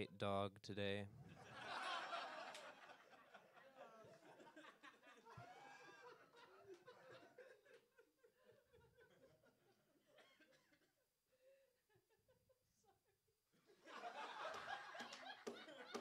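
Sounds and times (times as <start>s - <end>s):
faint audience laughter: 1.2s - 13.0s, 13.6s - 16.0s.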